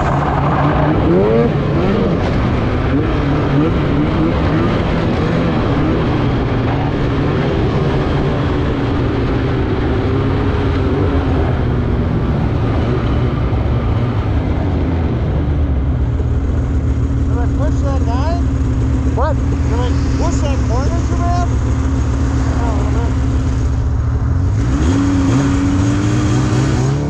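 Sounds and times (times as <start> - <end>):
snowmobile engine running: 0.0 - 27.0
track and wind noise: 0.0 - 27.0.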